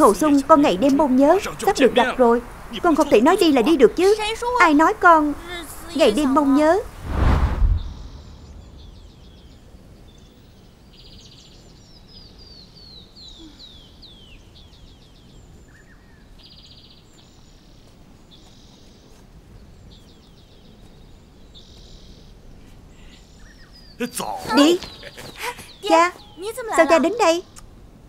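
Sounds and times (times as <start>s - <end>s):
small birds chirping: 0.0s - 7.0s, 7.8s - 28.0s
steady low outdoor hiss: 0.0s - 28.0s.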